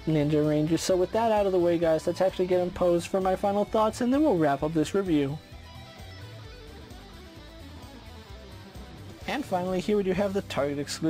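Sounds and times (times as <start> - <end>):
guitar music: 0.0 - 11.0
pulsing bass line: 0.0 - 11.0.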